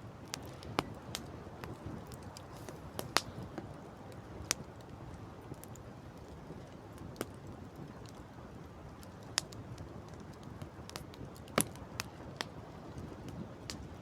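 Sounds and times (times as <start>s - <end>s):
campfire crackling and popping: 0.0s - 14.0s
wind: 0.0s - 14.0s.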